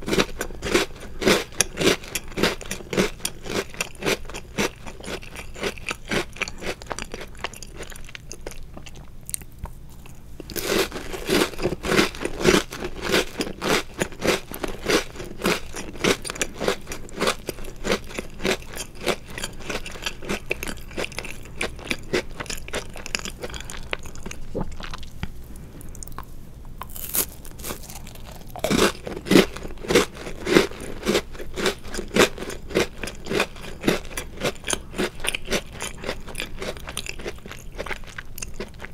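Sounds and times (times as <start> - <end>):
crunching and chewing cookies: 0.0 - 38.9.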